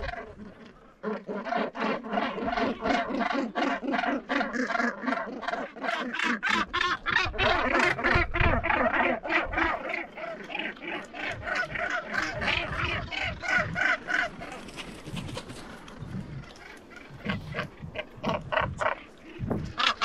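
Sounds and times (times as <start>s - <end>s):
gannets calling: 0.0s - 20.0s.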